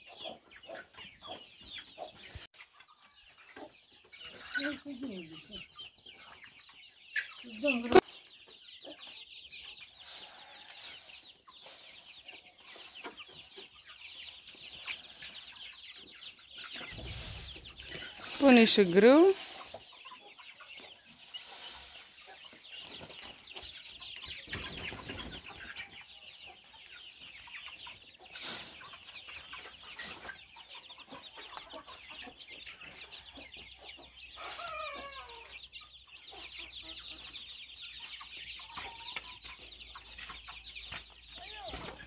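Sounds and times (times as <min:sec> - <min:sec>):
chickens clucking: 0:00.0 - 0:42.0.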